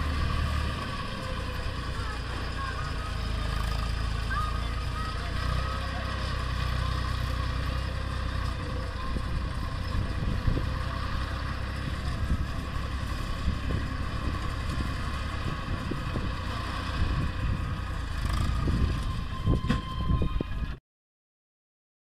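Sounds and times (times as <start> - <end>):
tractor diesel engine running: 0.0 - 20.8.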